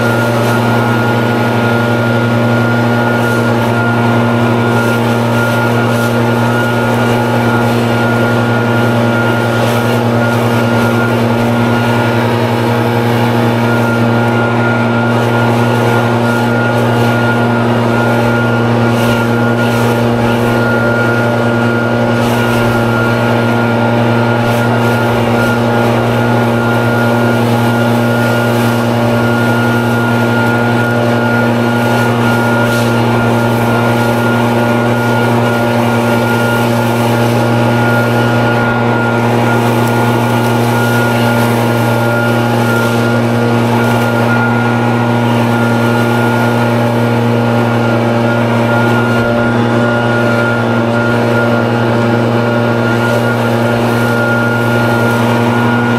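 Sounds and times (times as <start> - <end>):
leaf blower running: 0.0 - 55.9.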